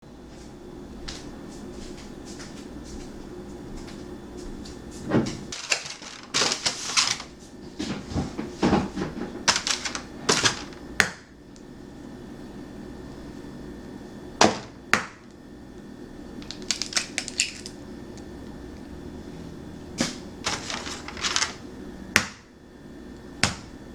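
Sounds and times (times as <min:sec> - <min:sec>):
steady low hum: 0:00.1 - 0:23.9.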